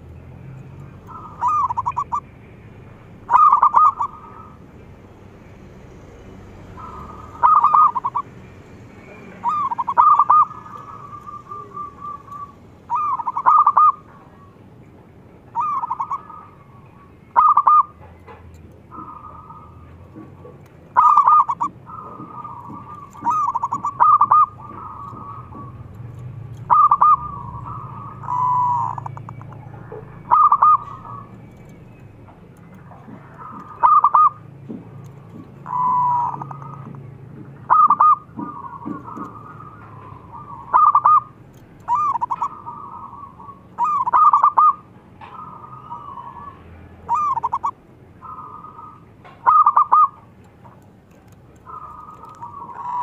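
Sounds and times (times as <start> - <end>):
dove cooing: 0.0 - 2.4, 3.2 - 4.8, 6.6 - 8.3, 9.0 - 14.7, 15.4 - 53.0.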